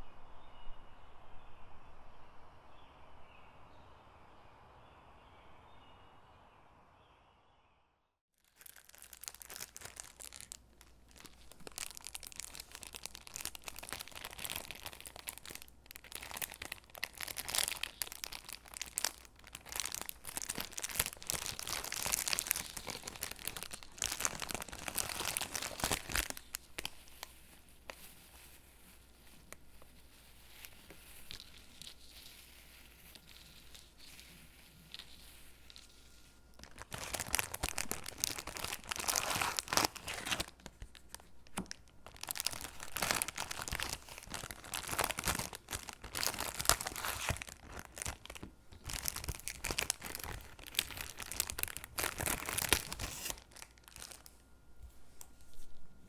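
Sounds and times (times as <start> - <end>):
paper crackling and rustling: 8.4 - 54.4.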